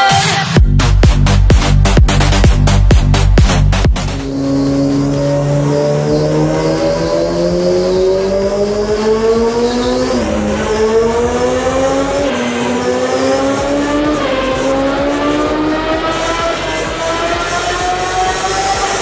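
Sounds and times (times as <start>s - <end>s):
motorcycle engine accelerating: 0.6s - 19.0s.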